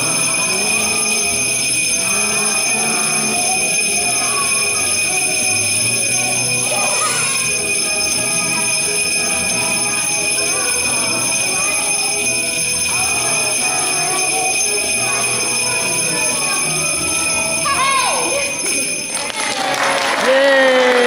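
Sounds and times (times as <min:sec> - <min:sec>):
jingle bells jingling: 0:00.0 - 0:20.4.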